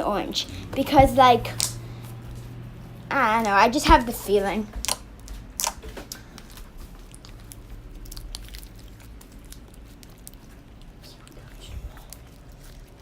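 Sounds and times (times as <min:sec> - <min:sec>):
slime squeezed by hand crackling: 0:00.9 - 0:13.0.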